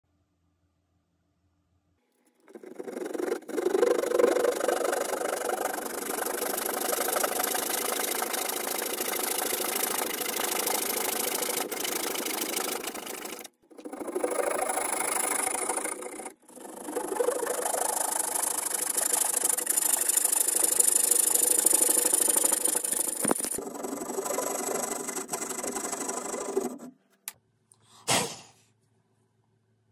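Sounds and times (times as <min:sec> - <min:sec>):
hand saw rasping through wood: 0:02.4 - 0:26.9.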